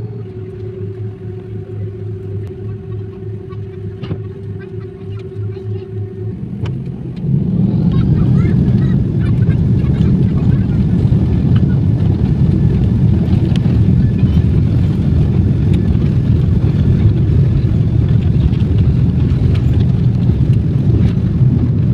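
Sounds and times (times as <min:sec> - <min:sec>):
faint voices: 0:00.0 - 0:20.0
aircraft engines rumbling: 0:00.0 - 0:21.9.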